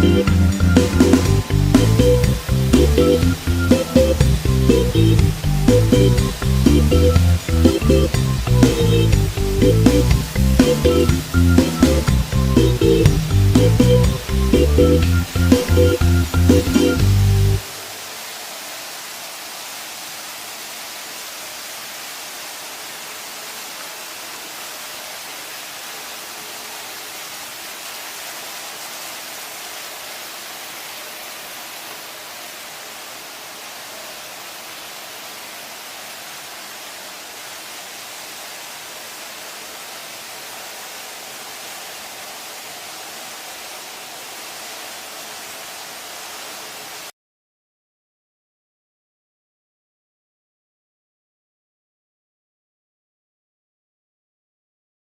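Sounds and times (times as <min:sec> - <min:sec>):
steady hiss: 0:00.0 - 0:47.1.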